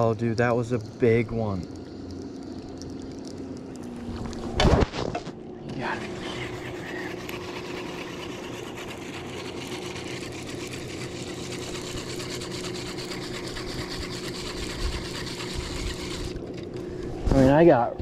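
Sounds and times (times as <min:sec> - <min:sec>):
fishing reel gears whirring: 0:00.0 - 0:04.6, 0:05.6 - 0:17.7.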